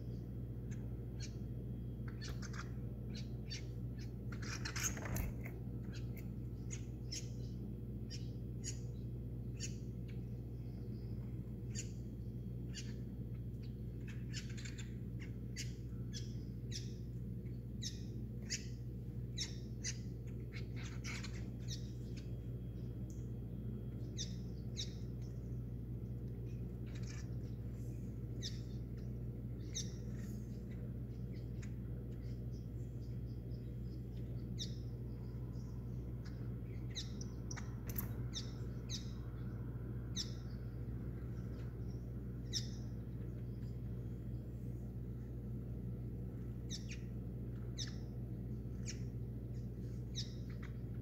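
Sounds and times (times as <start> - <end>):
small birds chirping: 0.0 - 51.0
steady low hum: 0.0 - 51.0.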